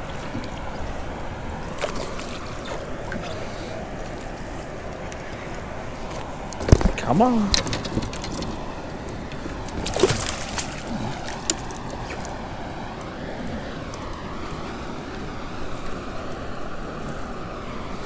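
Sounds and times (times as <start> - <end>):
water splashing against kayak: 0.0 - 18.0.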